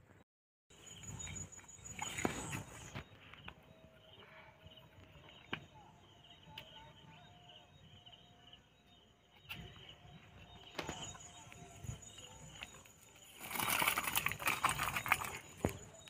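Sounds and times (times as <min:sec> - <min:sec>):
faint outdoor ambience: 0:00.0 - 0:16.0.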